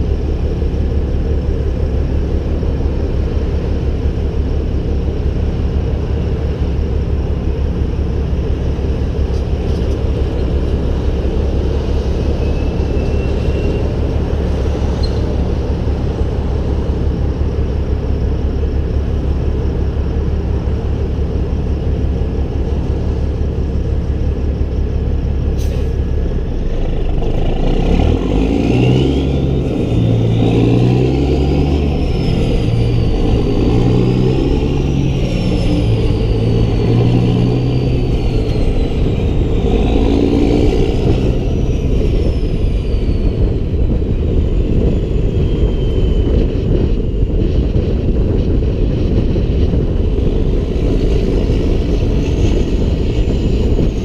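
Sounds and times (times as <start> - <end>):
truck diesel engine droning: 0.0 - 54.0.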